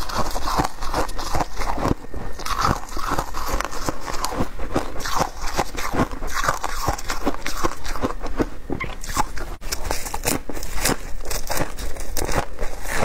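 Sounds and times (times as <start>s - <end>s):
crunching ice chewing: 0.0s - 13.0s.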